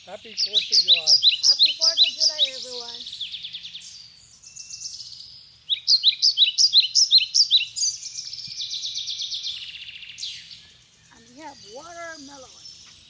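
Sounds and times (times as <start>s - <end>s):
birds rapid trilling: 0.0s - 13.0s
songbirds singing: 0.0s - 13.0s.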